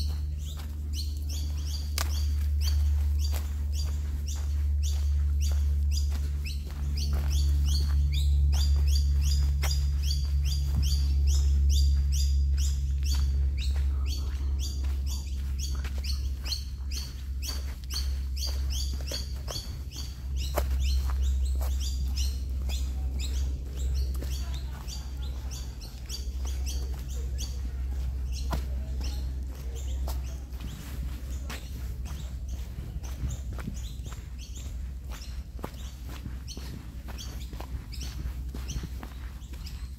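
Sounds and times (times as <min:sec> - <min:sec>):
bird chirping rapidly: 0:00.0 - 0:39.9
steady low rumble: 0:00.0 - 0:39.9.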